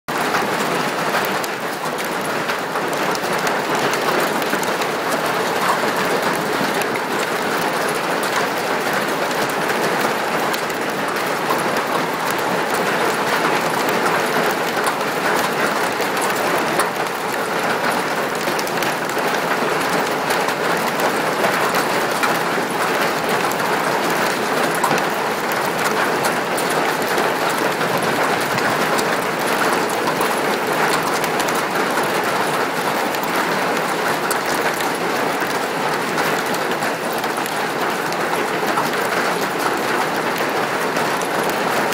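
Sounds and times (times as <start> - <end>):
hail pelting down: 0.1 - 41.9.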